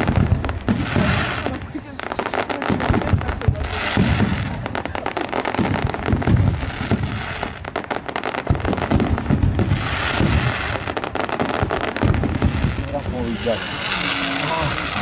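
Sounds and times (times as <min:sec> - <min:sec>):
firework shell booms: 0:00.0 - 0:01.7, 0:02.5 - 0:15.0
fireworks crackling: 0:00.0 - 0:15.0.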